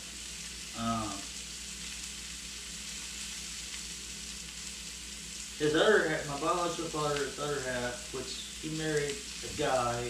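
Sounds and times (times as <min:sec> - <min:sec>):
sausages sizzling in a frying pan: 0:00.0 - 0:10.0.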